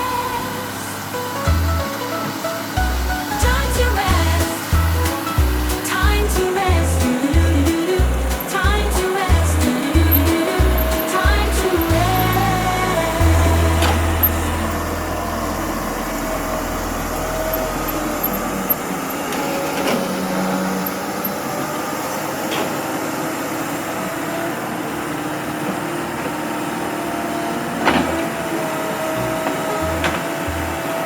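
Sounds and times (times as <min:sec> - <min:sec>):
heavy machine engine running: 0:00.0 - 0:31.0.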